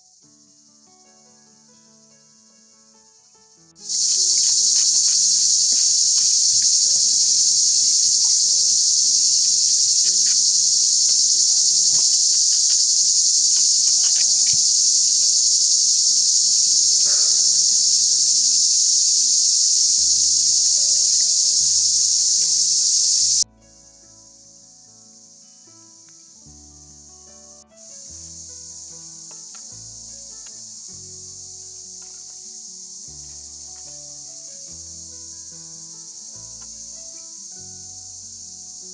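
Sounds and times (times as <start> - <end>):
faint melodic music: 0.0 - 38.9
insects singing: 3.2 - 26.3, 27.8 - 38.9.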